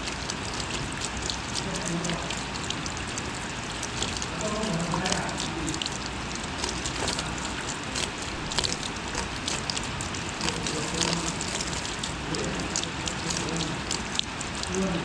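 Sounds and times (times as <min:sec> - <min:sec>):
rain falling: 0:00.0 - 0:15.0
raindrops ticking close: 0:00.0 - 0:15.0.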